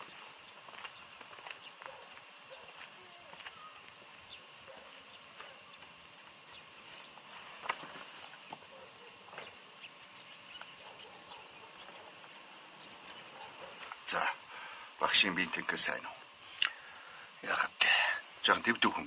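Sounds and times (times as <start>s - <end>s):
faint steady hiss: 0.0s - 19.0s
small chirps and ticks: 0.0s - 19.0s.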